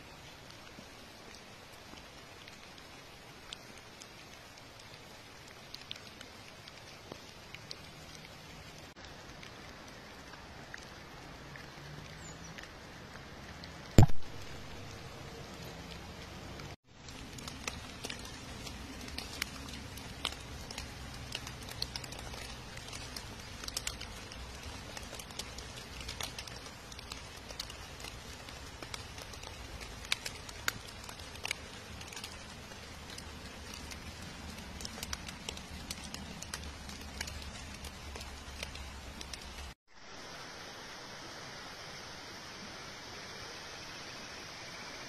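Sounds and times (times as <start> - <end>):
rain pattering on water and leaves: 0.0 - 45.0.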